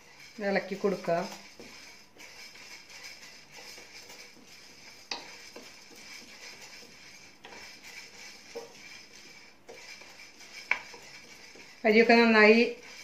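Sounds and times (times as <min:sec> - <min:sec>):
wooden spatula scraping a pan: 0:00.0 - 0:13.0.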